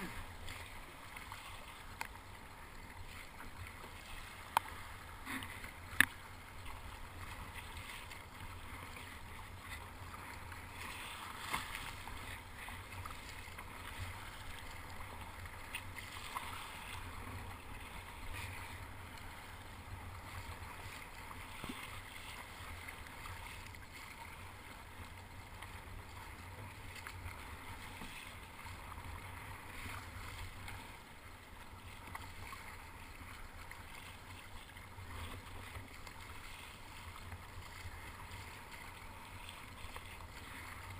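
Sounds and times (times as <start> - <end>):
paddle strokes splashing: 0.0 - 40.9
water washing against kayak: 0.0 - 40.9.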